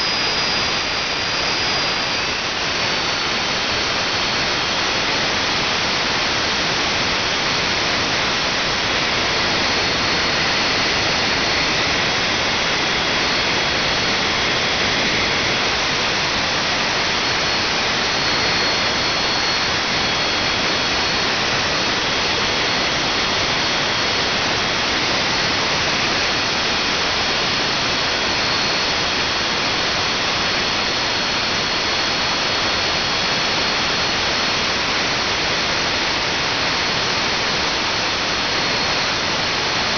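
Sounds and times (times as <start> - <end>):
gas turbine engine running: 0.0 - 39.9.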